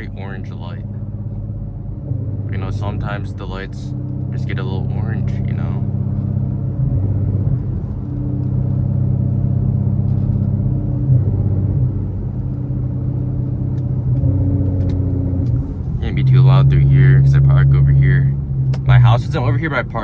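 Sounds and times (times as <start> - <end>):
car engine low drone: 0.0 - 20.0.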